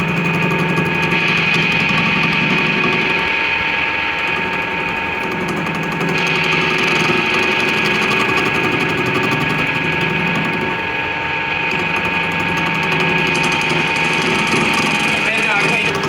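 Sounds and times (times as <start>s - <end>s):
motor whining and humming: 0.0s - 16.0s.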